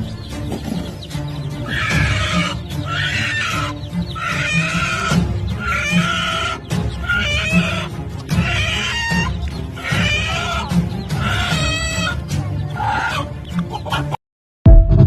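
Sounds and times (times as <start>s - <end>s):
music with steady beat: 0.0s - 13.8s
chicken clucking: 0.0s - 14.2s.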